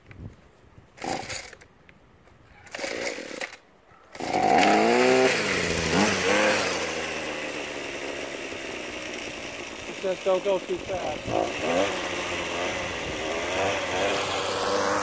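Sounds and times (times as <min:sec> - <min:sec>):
string trimmer engine revving: 0:01.0 - 0:01.6, 0:02.7 - 0:03.6, 0:04.2 - 0:15.0.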